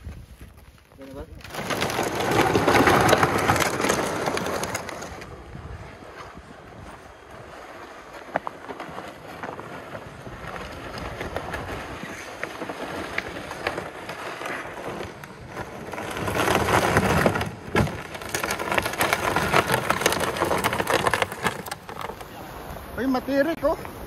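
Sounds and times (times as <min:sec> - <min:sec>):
plastic sled scraping on snow: 0:00.0 - 0:24.0.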